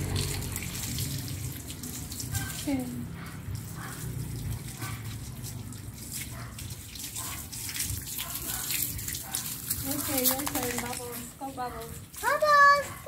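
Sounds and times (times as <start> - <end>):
water running from garden hose: 0.0 - 13.0
water splashing on concrete: 0.0 - 13.0.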